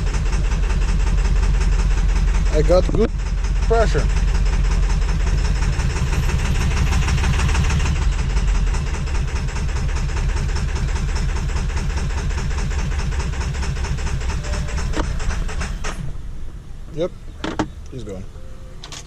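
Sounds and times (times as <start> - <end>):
engine misfiring and stalling: 0.0 - 18.0
diesel engine clattering: 0.0 - 19.0.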